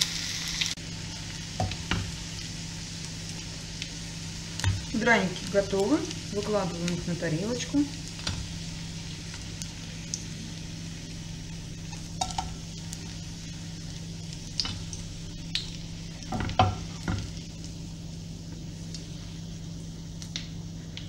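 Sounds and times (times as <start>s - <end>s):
pancakes sizzling in oil: 0.0s - 21.0s.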